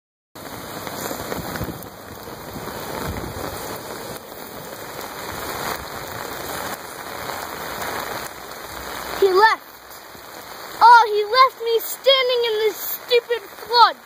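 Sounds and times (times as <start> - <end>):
heavy rain falling: 0.4 - 14.0.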